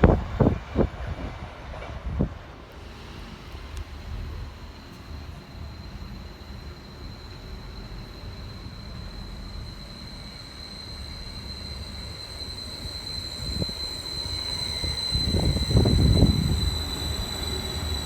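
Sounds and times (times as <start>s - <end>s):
train rumbling with high whine: 0.0s - 18.0s.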